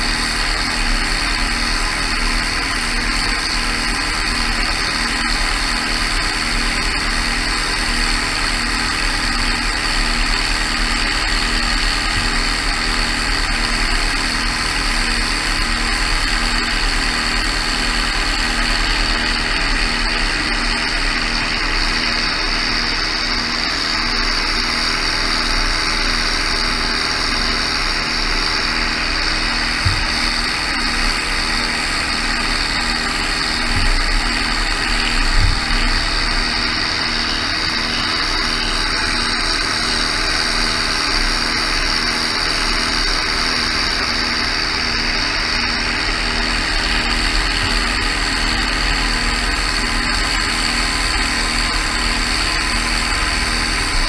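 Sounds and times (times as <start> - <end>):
sprayer hiss: 0.0 - 54.0
tractor engine running: 0.0 - 54.0.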